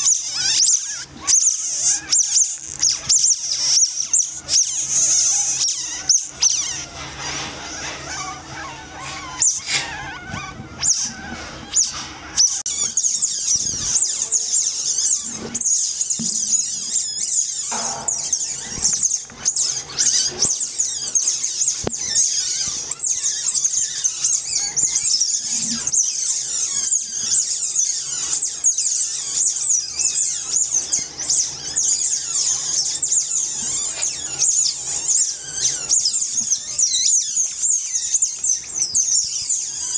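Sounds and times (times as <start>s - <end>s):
otter pups squealing: 0.0s - 39.9s.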